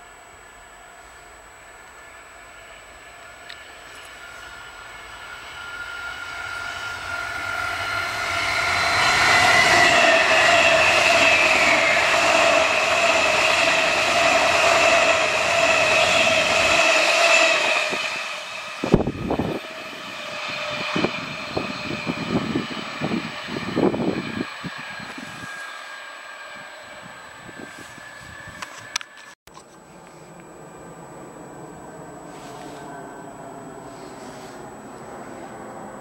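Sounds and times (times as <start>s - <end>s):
train wheels rushing on rail: 0.0s - 29.4s
traction motor whine: 0.0s - 36.0s.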